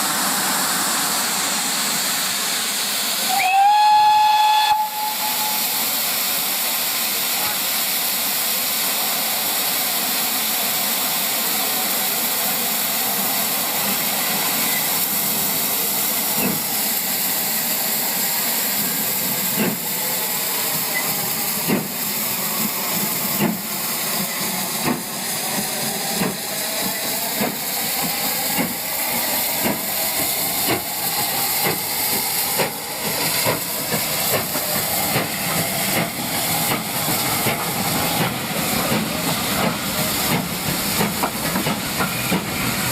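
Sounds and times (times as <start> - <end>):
steam locomotive chuffing beats: 0.0 - 42.9
steam locomotive hissing: 0.0 - 42.9.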